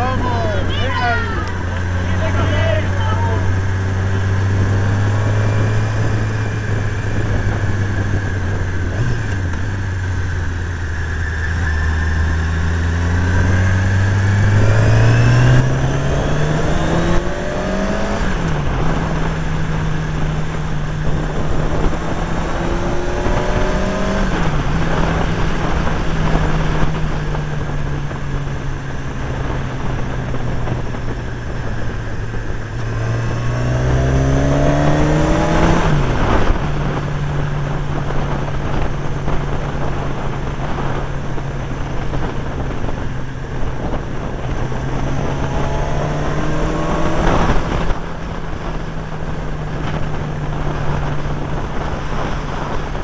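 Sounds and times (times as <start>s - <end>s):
motorcycle engine running: 0.0s - 53.0s
rushing wind: 0.0s - 53.0s.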